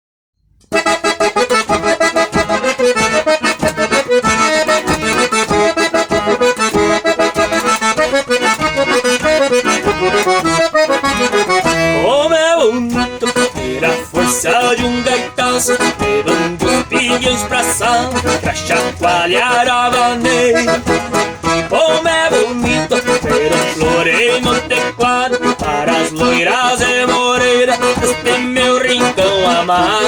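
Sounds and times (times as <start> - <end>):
accordion dance music: 0.5 - 30.0.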